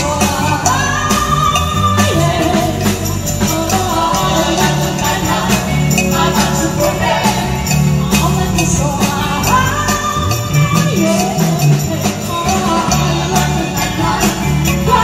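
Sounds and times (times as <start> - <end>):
backing vocals: 0.0 - 15.0
drums: 0.0 - 15.0
woman singing lead: 0.0 - 15.0.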